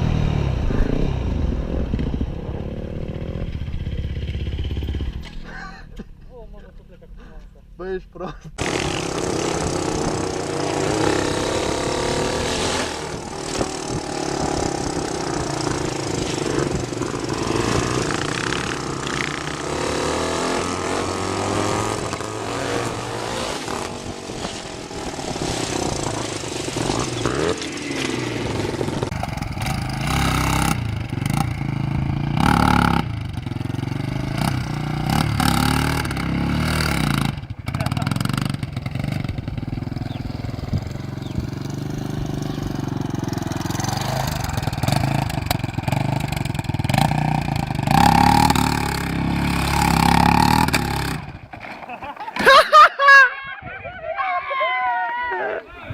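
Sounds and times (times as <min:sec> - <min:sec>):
dirt bike engine revving: 0:00.0 - 0:05.8, 0:08.6 - 0:52.8.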